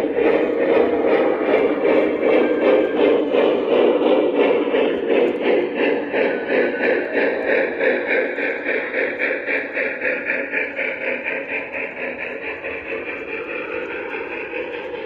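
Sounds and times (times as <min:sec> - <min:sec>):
model train rhythmic pulsing: 0:00.0 - 0:15.0.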